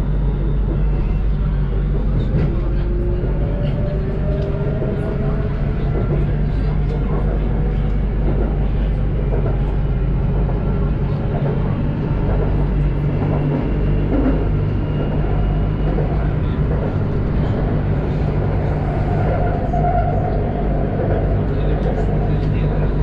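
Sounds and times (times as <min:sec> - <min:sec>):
train traction motor hum: 0:00.0 - 0:23.0
train wheel and rail noise: 0:00.0 - 0:23.0.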